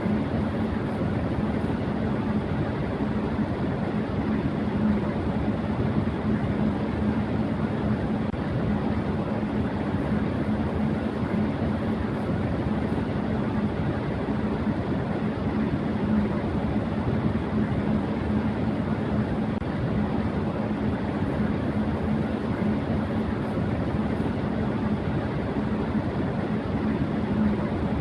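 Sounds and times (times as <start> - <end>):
electric fan rushing air: 0.0 - 28.0
low fan hum: 0.0 - 28.0.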